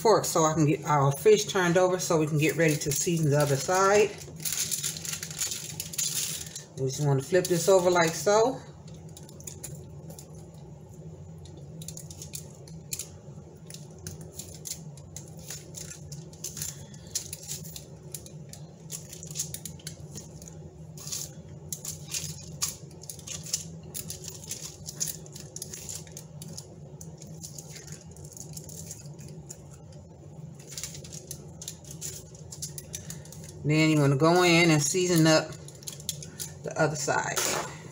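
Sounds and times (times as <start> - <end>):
crinkling aluminium foil: 0.0 - 37.9
steady low hum: 0.0 - 37.9.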